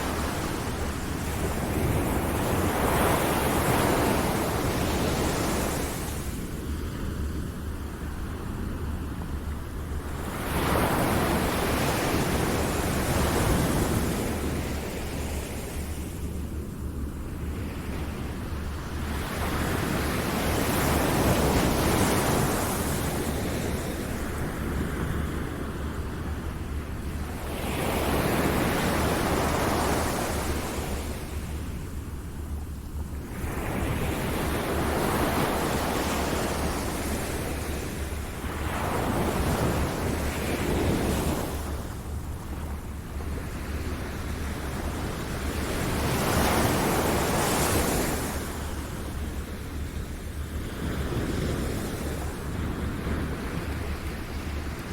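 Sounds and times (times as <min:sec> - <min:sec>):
constant low rumble: 0:00.0 - 0:54.9.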